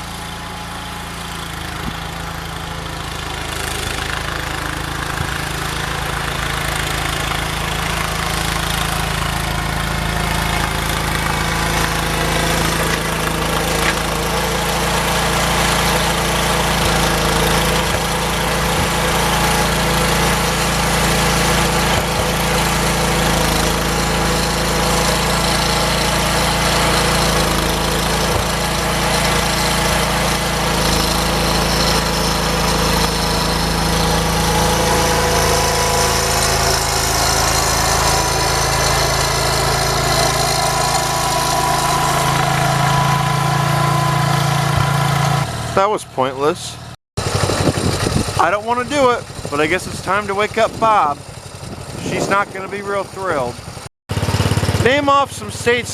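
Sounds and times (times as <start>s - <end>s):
snowplow engine running: 0.0s - 55.9s.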